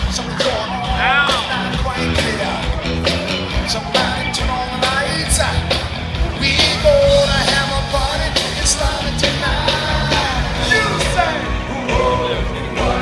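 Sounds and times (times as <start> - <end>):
crowd: 0.0 - 13.0
loud music with singing: 0.0 - 13.0.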